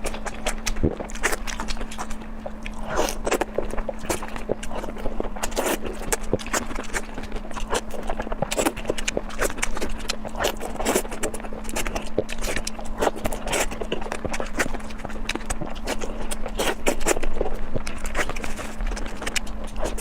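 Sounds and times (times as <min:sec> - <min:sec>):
crunchy biting and chewing: 0:00.0 - 0:20.0
faint steady hum: 0:00.0 - 0:20.0.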